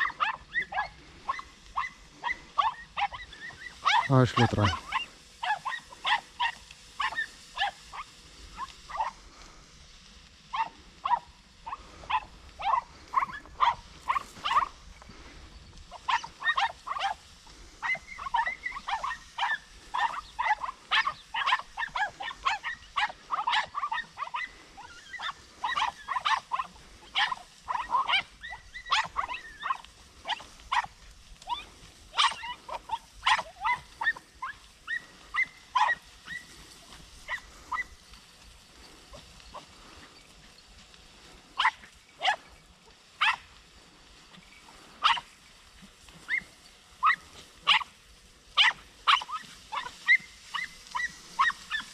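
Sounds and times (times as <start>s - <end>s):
hounds yelping: 0.0s - 9.8s, 10.4s - 51.9s.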